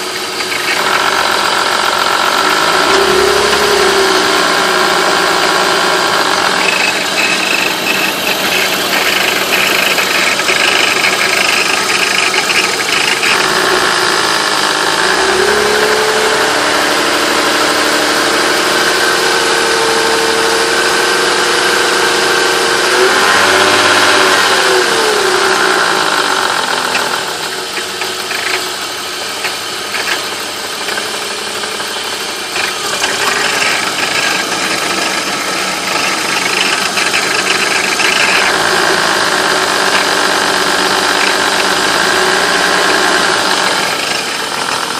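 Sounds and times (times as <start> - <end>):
car engine running with a rattle: 0.0 - 44.9
engine revving: 0.0 - 44.9.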